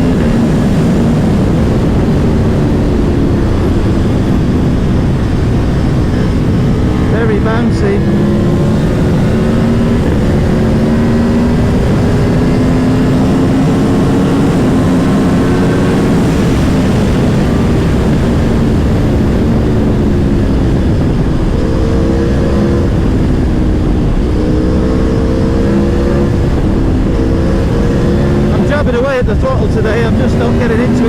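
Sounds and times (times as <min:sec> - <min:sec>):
heavy wind rush: 0:00.0 - 0:31.0
motorcycle engine revving: 0:00.0 - 0:31.0.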